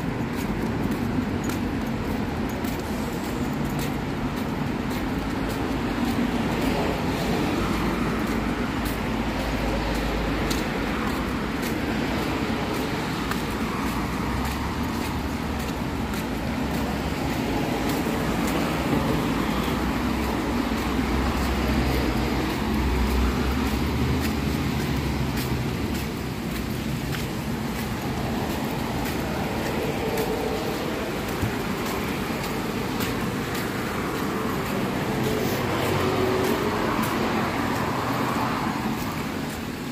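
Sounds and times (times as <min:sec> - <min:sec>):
hiss of passing cars: 0:00.0 - 0:39.9
low traffic rumble: 0:00.0 - 0:39.9.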